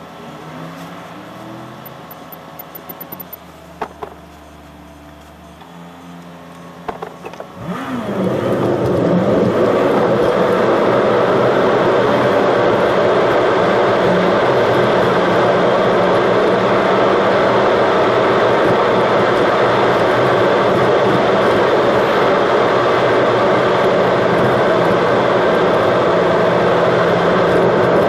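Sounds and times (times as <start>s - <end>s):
car engine: 0.0s - 28.0s
road noise: 0.0s - 28.0s.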